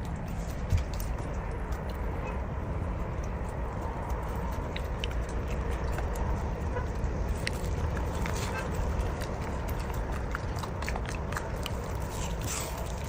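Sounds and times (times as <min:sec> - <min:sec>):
dog licking and chewing: 0:00.0 - 0:13.0.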